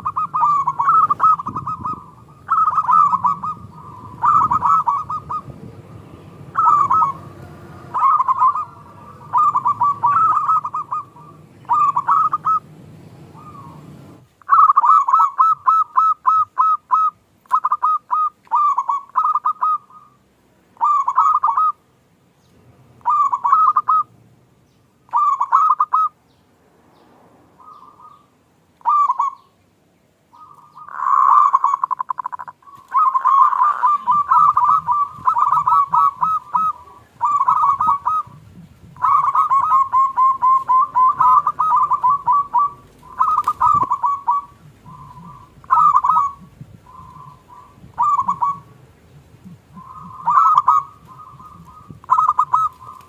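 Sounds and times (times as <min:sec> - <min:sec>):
dove cooing: 0:00.0 - 0:20.2, 0:20.8 - 0:21.8, 0:23.0 - 0:24.1, 0:25.1 - 0:26.2, 0:27.6 - 0:29.6, 0:30.3 - 0:53.0.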